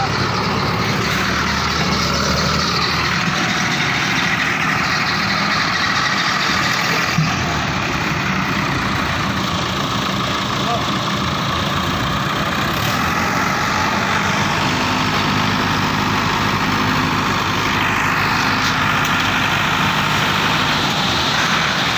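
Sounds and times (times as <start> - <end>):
engine idling: 0.0 - 21.9.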